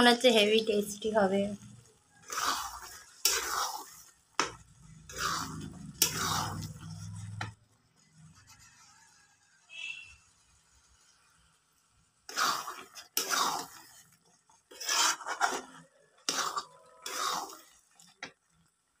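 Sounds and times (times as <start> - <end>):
spatula scraping metal pan: 2.2 - 11.4, 12.1 - 18.2.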